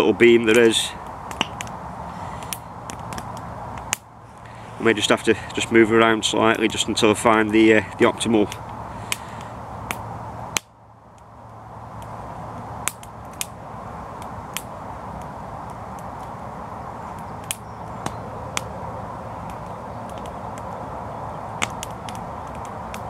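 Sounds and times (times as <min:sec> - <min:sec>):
campfire hissing: 0:00.0 - 0:23.0
fire crackling pops: 0:00.0 - 0:23.0.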